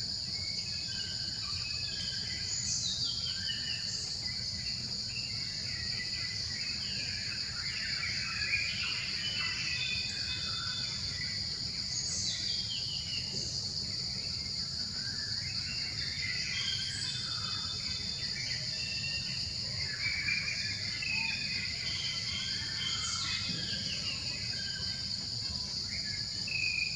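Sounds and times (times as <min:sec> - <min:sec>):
insects droning: 0:00.0 - 0:26.9.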